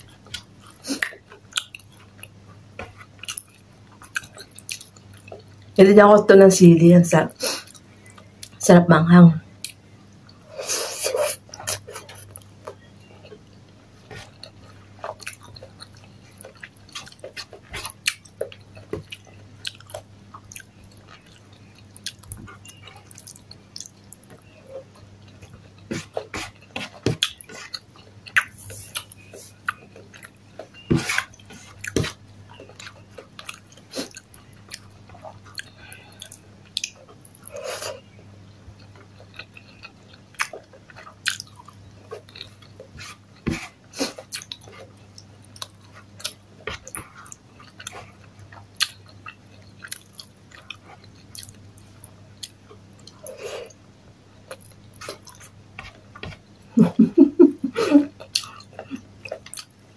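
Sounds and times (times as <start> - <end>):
close chewing food: 0.0 - 5.8, 11.1 - 56.8, 58.0 - 59.9
faint low hum: 0.0 - 59.9.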